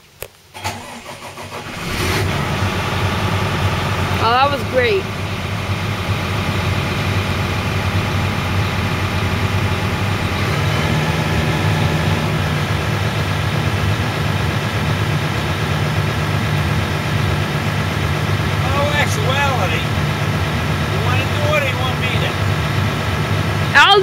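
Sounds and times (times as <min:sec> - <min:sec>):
excavator diesel engine running: 0:00.6 - 0:24.0.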